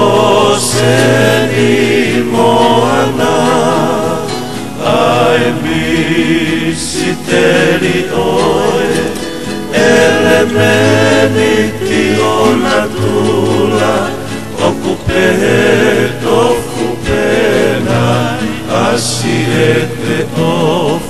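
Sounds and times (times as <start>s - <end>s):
instrumental backing: 0.0s - 21.0s
voices singing together: 0.0s - 21.0s.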